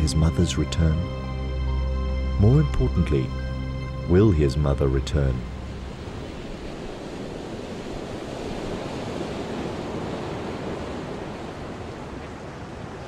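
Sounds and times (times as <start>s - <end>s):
ocean waves washing: 0.0s - 13.0s
wind: 0.0s - 13.0s.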